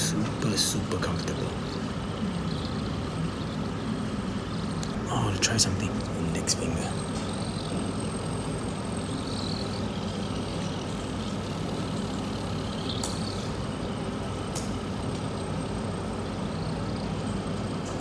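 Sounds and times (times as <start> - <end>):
low room rumble and hum: 0.0 - 18.0.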